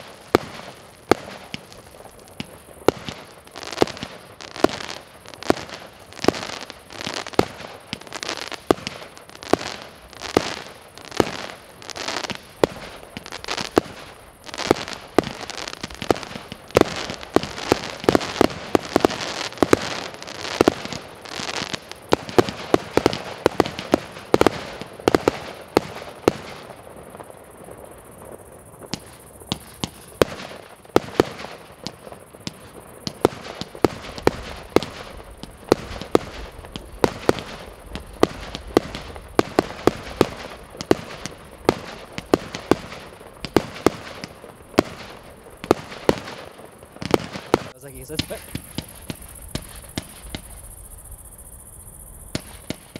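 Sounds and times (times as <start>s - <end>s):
firework battery firing shots: 0.0s - 26.8s, 28.9s - 50.9s, 52.3s - 52.9s.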